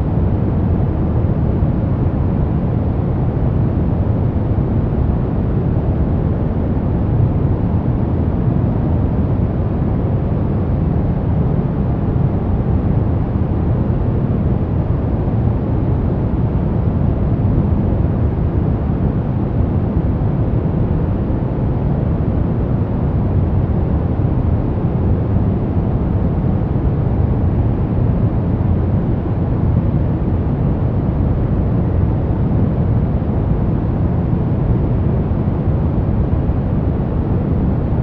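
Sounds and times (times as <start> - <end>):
low deep white noise rush: 0.0 - 38.0.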